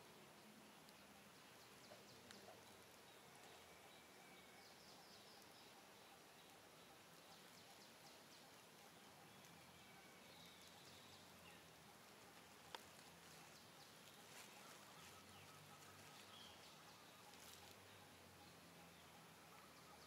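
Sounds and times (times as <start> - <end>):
faint chirps: 0.0 - 20.0.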